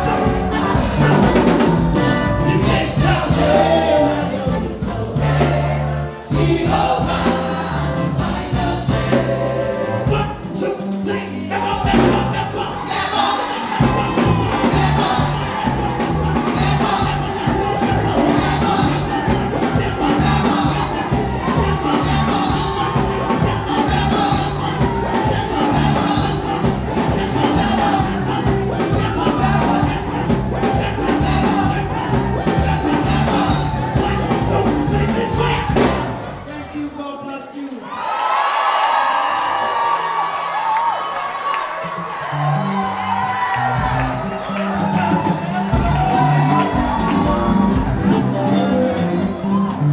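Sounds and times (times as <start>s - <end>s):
bass line: 0.0s - 36.4s, 42.3s - 49.9s
drums: 0.0s - 36.5s, 42.4s - 49.9s
gospel choir singing: 0.0s - 38.0s, 42.2s - 49.9s.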